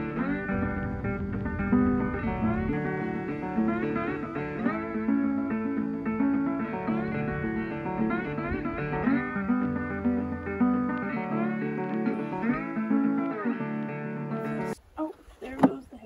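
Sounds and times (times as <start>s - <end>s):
plucked guitar music: 0.0s - 14.8s.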